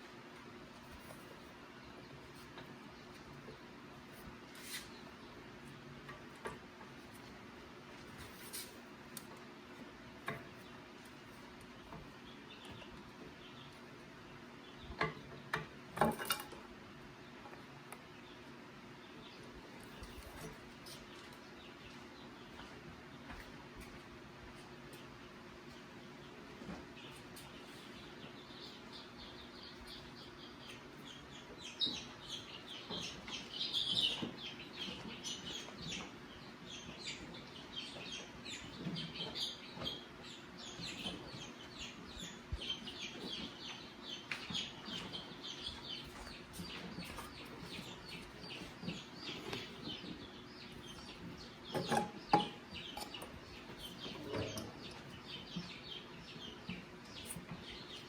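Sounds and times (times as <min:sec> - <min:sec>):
birds chirping: 0:08.9 - 0:58.0.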